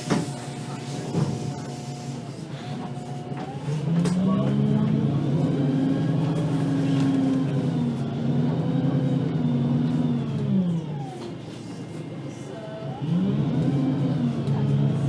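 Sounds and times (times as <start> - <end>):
bus engine pulling under load: 0.0 - 15.0.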